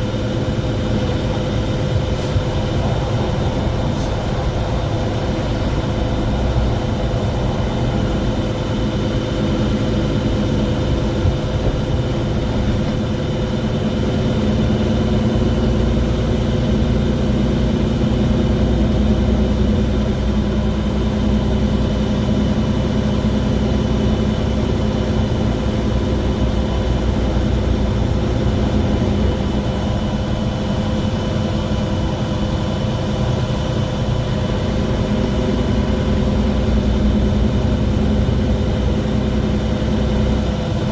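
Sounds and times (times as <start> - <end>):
low engine drone: 0.0 - 40.9.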